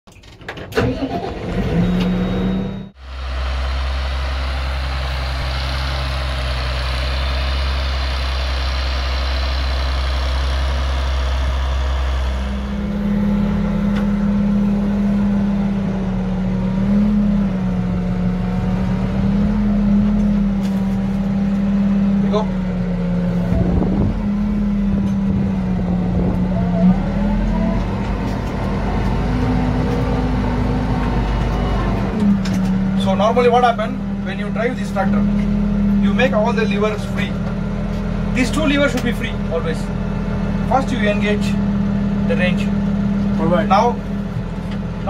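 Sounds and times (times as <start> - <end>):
tractor diesel engine running: 0.6 - 45.0.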